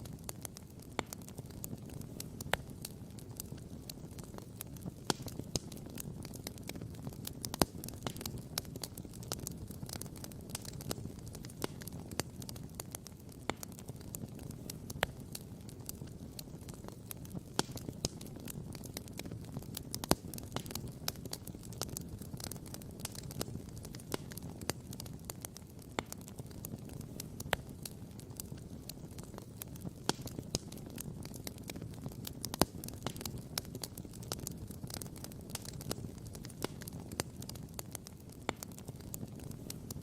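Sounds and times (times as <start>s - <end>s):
steady low rush of fire: 0.0s - 40.0s
wood crackling and popping: 0.0s - 40.0s.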